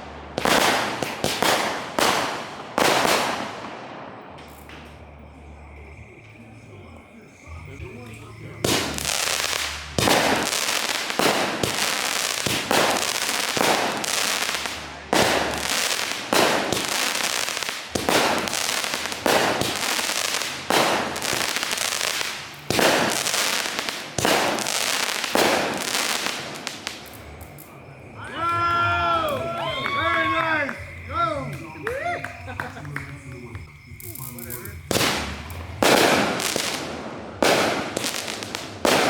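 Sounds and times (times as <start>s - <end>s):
fireworks bangs: 0.0s - 39.0s.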